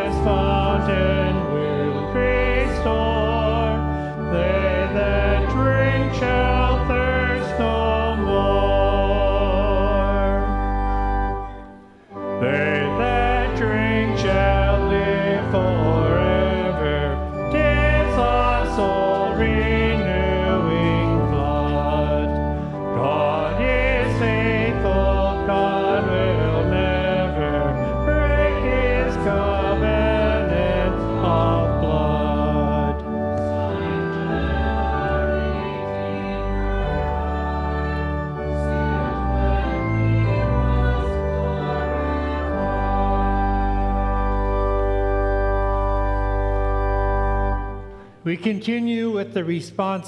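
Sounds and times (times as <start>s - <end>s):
voices singing a hymn: 0.0s - 49.5s
organ playing: 0.0s - 50.0s.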